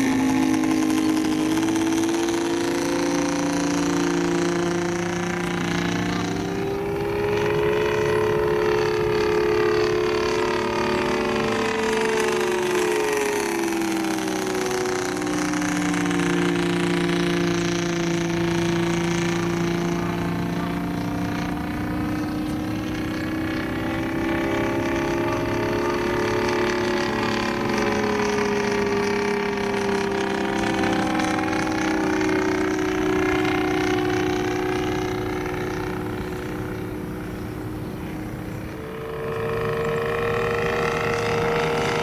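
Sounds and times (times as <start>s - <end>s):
model aircraft engine: 0.0s - 42.0s.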